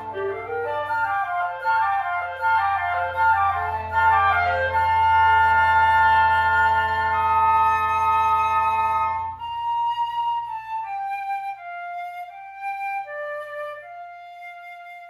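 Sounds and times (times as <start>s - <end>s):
woodwind ensemble chord: 0.0s - 14.5s
solo flute melody: 0.0s - 15.0s.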